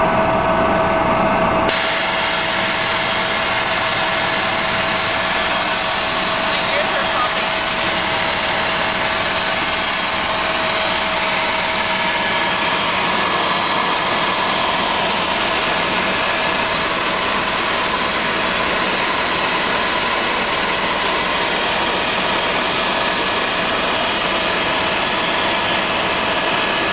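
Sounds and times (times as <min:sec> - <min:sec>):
helicopter turbine and rotor running: 0:00.0 - 0:26.9.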